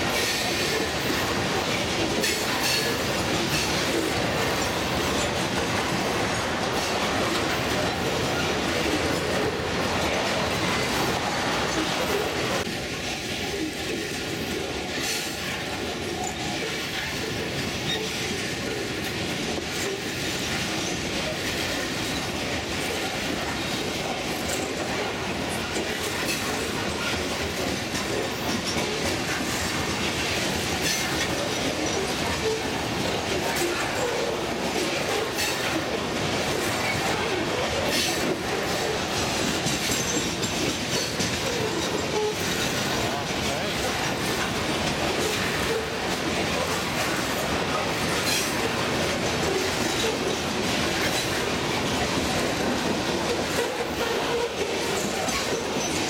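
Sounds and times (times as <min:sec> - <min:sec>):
train wheels rumbling on rails: 0:00.0 - 0:56.0
wheels clicking over rail joints: 0:00.0 - 0:56.0.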